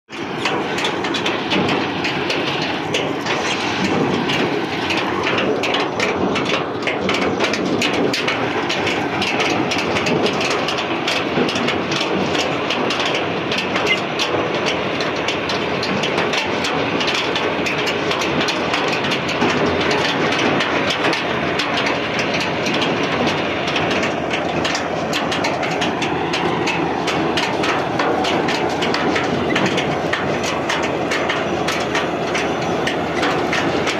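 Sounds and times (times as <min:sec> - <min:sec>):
loose metal rattling: 0:00.1 - 0:33.9
tractor engine running: 0:00.1 - 0:33.9.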